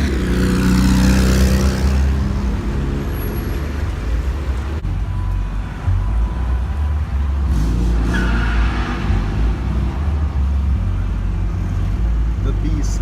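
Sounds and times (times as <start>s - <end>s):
car engine: 0.0s - 13.0s
heavy road rumble: 0.0s - 13.0s.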